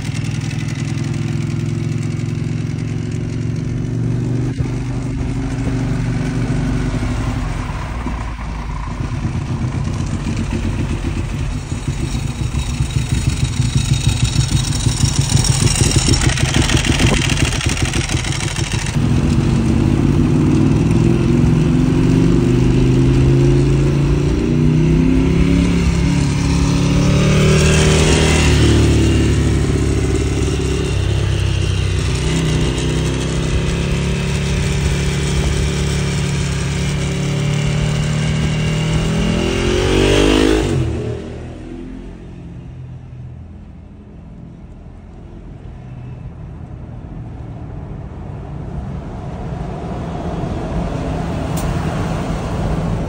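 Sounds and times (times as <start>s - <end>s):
motorcycle engine revving: 0.0s - 43.6s
road and traffic noise: 0.0s - 53.0s.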